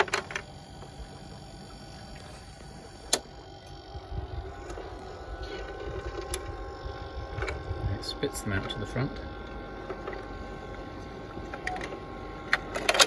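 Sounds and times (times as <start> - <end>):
rising whine: 0.0 - 12.6
ice maker motor hum: 0.0 - 13.0.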